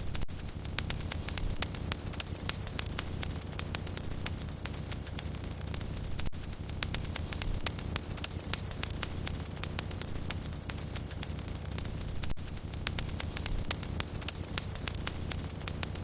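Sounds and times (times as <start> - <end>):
low rumble of burning: 0.0 - 16.0
wood fire pops and snaps: 0.0 - 16.0.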